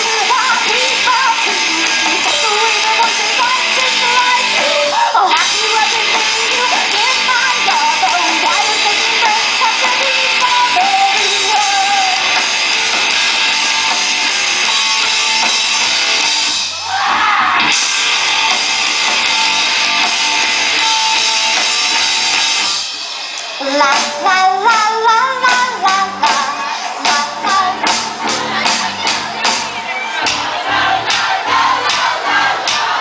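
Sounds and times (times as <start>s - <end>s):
electric guitar: 0.0s - 31.1s
live rock band playing: 0.0s - 33.0s.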